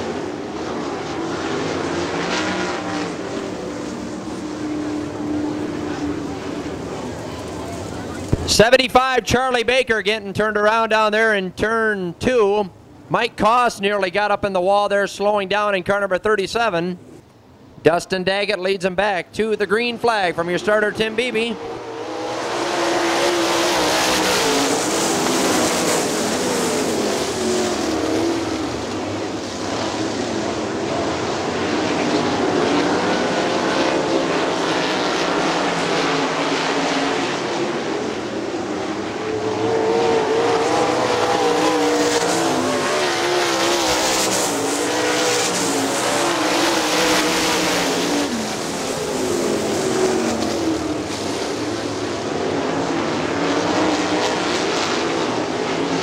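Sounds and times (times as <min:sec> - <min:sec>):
race car engines passing by: 0:00.0 - 0:56.0.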